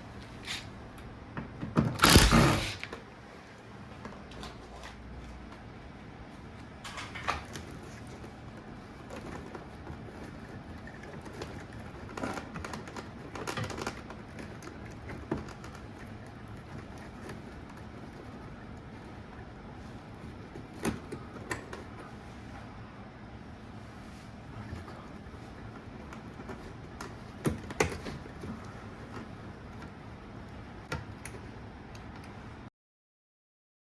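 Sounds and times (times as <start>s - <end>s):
low background hum: 0.0s - 32.7s.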